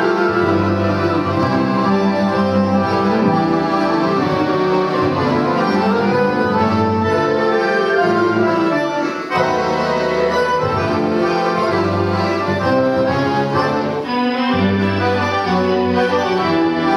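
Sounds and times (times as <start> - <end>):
accordion orchestra chords: 0.0 - 16.9.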